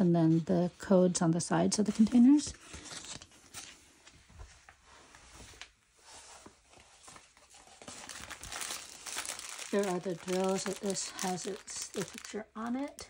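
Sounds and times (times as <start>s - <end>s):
paper rustling: 1.8s - 13.0s.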